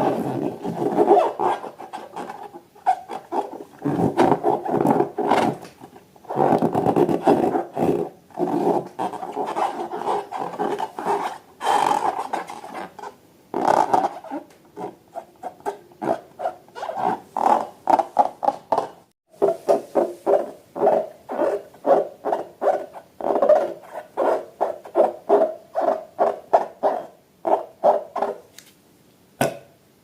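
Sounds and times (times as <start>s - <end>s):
rubbery squeaks and squelches: 0.0s - 28.5s.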